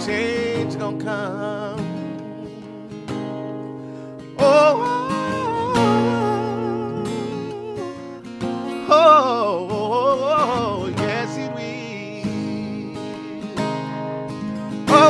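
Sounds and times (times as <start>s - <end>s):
man singing soul-style: 0.0s - 2.8s, 4.4s - 13.8s, 14.4s - 15.0s
acoustic guitar: 0.0s - 15.0s.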